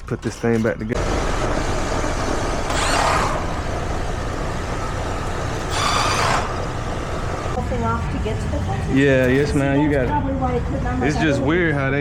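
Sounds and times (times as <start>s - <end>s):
air conditioner fan rushing: 1.0s - 12.0s.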